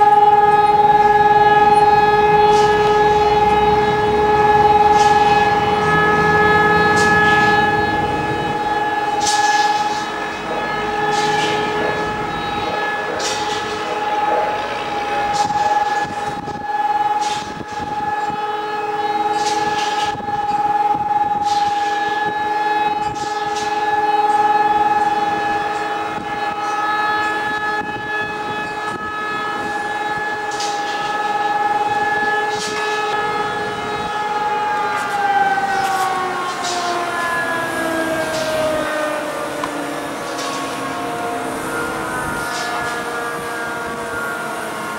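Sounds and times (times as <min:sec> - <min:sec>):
air raid siren winding down: 0:00.0 - 0:44.9.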